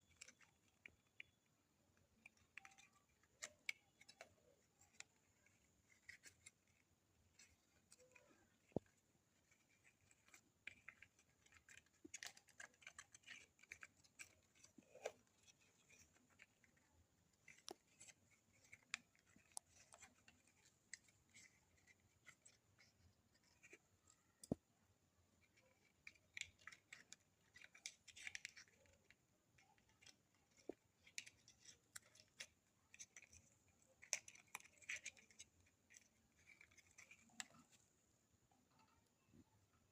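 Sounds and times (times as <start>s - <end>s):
parrot beak clicks and scratches: 0.0s - 39.9s.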